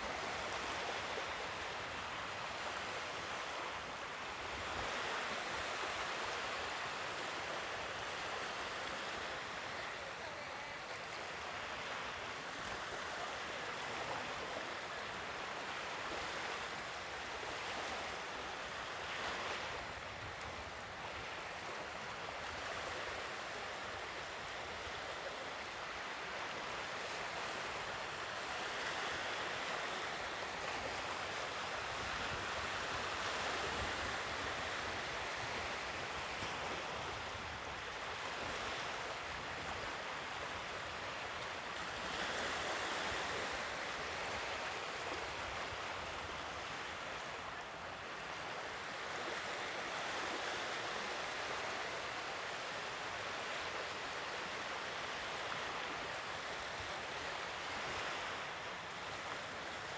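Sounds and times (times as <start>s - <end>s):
ocean waves on shore: 0.0s - 59.9s.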